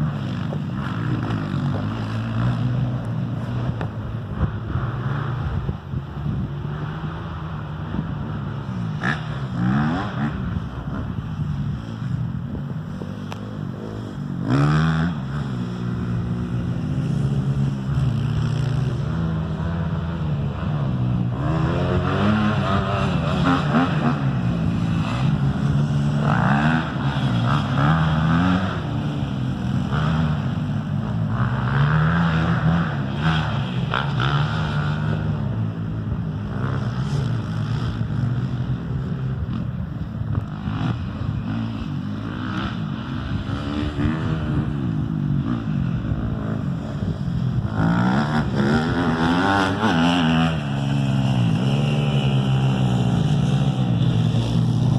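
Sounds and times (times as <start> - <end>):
off-road engine revving: 0.0 - 5.8, 6.4 - 12.2, 12.8 - 39.7, 40.3 - 54.9.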